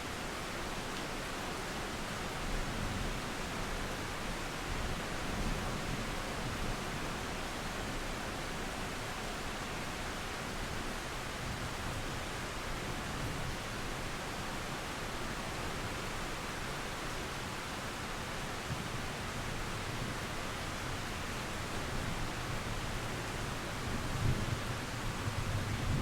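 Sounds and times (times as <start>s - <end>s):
river water running: 0.0s - 26.0s
steady rain: 0.0s - 26.0s.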